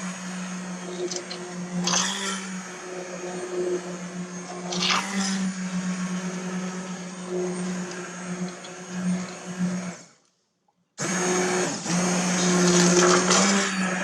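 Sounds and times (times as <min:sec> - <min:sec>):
immersion blender whirring: 0:00.0 - 0:10.2, 0:11.0 - 0:14.0.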